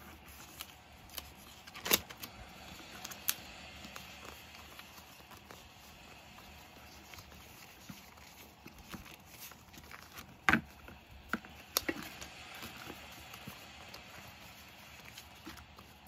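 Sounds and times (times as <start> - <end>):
paper sheets rustling: 0.0 - 16.0.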